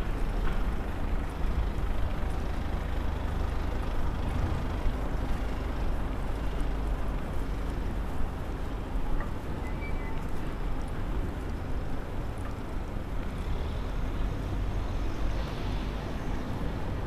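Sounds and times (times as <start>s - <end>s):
heavy low outdoor rumble: 0.0s - 17.0s.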